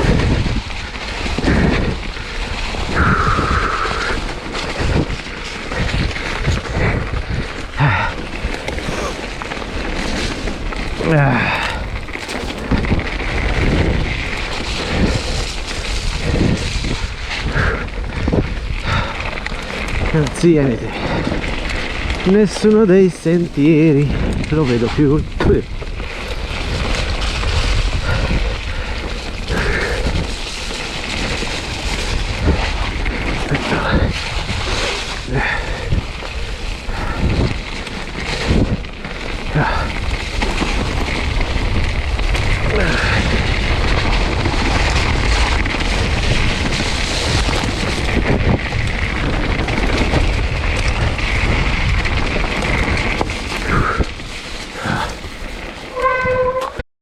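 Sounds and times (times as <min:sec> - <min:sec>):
mountain bike rolling on muddy trail: 0:00.0 - 0:56.8
rain: 0:00.0 - 0:56.8
wind buffeting microphone: 0:00.0 - 0:56.8.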